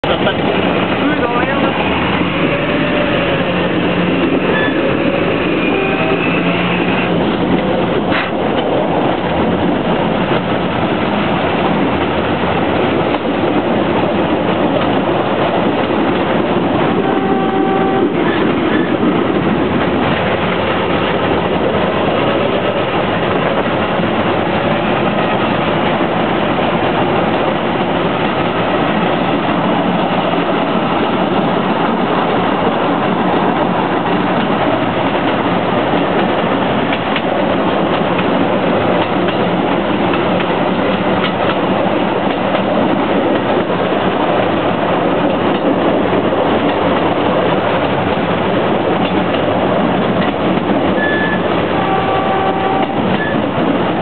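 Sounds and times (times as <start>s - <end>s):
rail speeder engine running: 0.0s - 54.0s
wheels rattling on rails: 0.0s - 54.0s.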